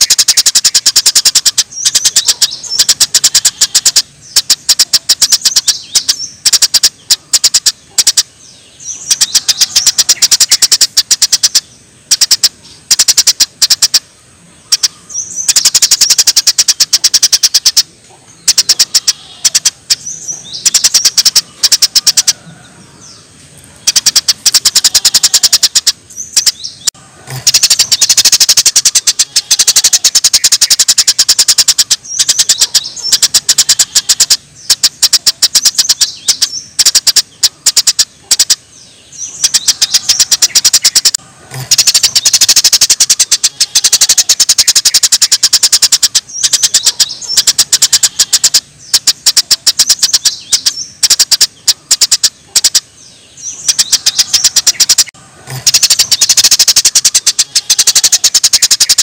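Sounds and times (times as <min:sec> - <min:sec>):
songbird rapid sharp notes: 0:00.0 - 0:22.4, 0:23.7 - 0:59.0.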